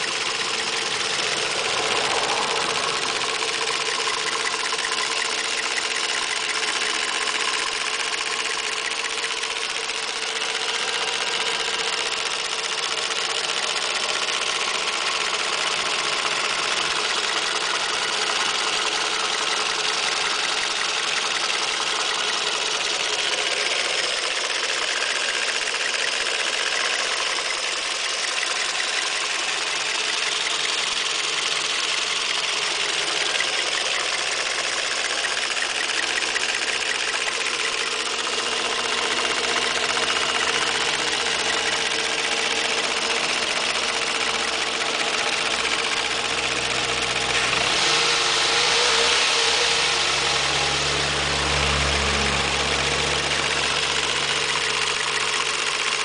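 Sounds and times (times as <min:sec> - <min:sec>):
car engine idling with ticking: 0:00.0 - 0:56.0.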